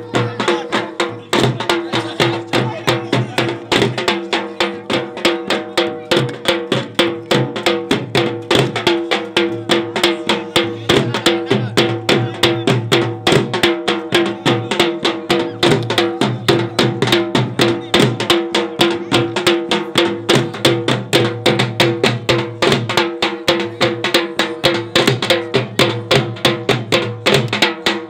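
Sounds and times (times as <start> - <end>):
drum beating fast rhythm: 0.0 - 28.0.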